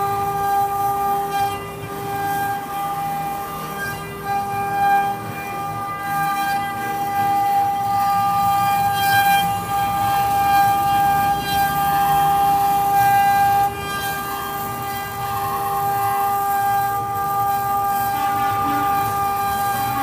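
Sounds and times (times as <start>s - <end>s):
router spindle motors whining: 0.0s - 20.0s.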